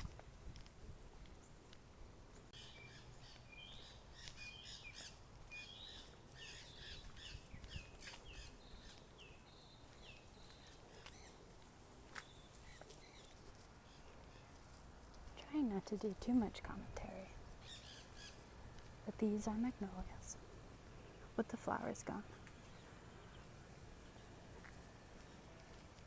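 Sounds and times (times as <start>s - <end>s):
faint birdsong: 1.3s - 26.0s.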